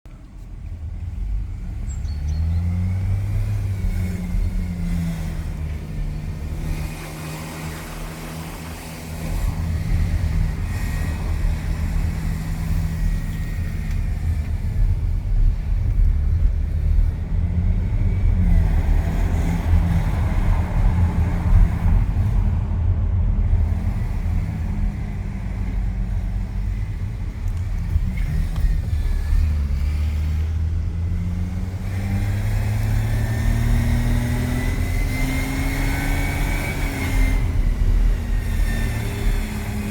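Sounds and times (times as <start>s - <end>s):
engine whine: 0.1s - 39.9s
diesel engine revving: 0.7s - 39.9s.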